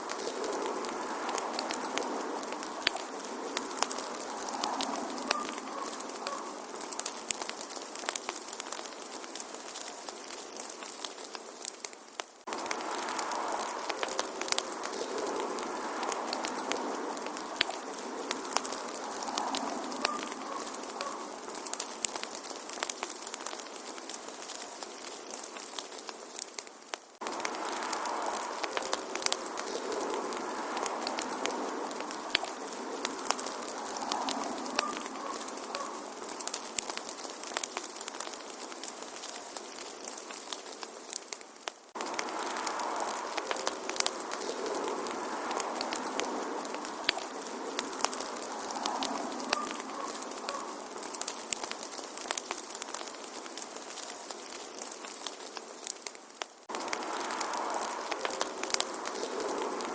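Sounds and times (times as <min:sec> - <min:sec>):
soft hiss of fire: 0:00.0 - 0:59.9
wood fire crackling and popping: 0:00.0 - 0:59.9.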